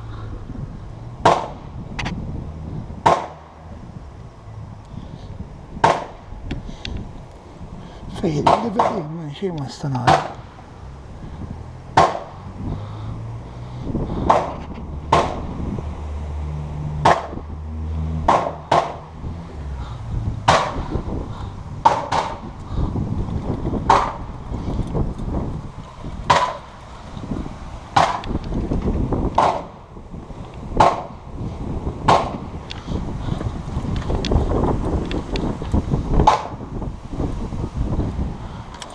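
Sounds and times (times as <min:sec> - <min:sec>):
handling and movement rumble: 0:00.0 - 0:38.9.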